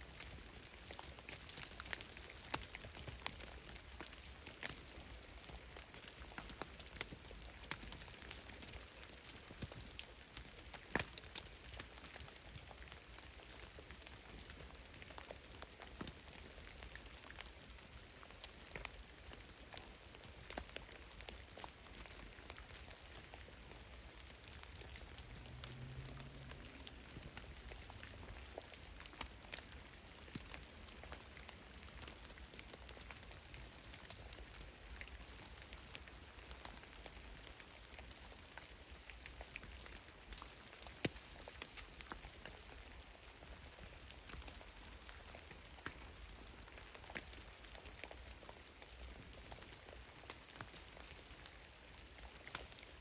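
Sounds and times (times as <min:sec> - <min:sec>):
faint steady hiss: 0:00.0 - 0:53.0
meltwater drips: 0:00.1 - 0:53.0.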